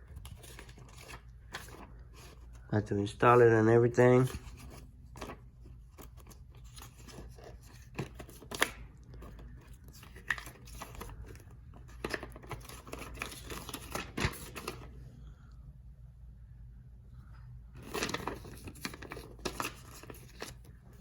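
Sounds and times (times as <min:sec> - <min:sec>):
paper and plastic rustling: 0:00.0 - 0:14.9, 0:17.7 - 0:21.0.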